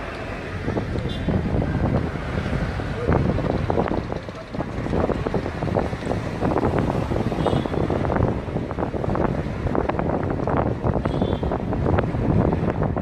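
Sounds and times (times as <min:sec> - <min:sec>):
vehicle rumble on road: 0:00.0 - 0:13.0
wind buffeting microphone: 0:00.4 - 0:13.0.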